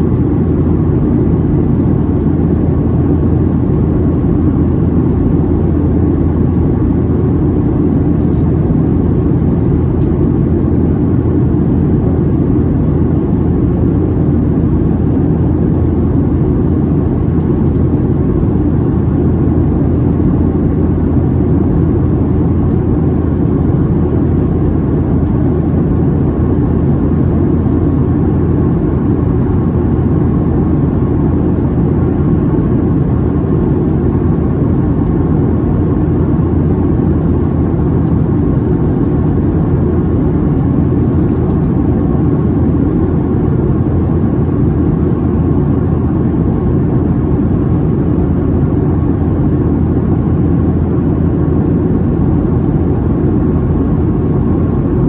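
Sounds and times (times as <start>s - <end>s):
constant cabin hum: 0.0s - 55.0s
engine rumble and rushing air: 0.0s - 55.0s.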